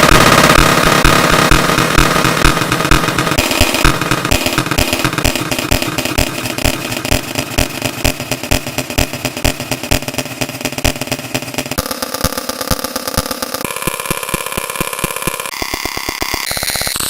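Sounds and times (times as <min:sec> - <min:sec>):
rapid stream of clicks: 0:00.0 - 0:16.2.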